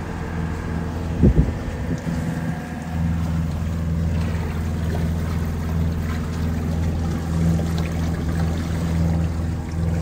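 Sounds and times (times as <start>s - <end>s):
boat engine running: 0.0s - 10.0s
water churning in propeller wash: 0.0s - 10.0s.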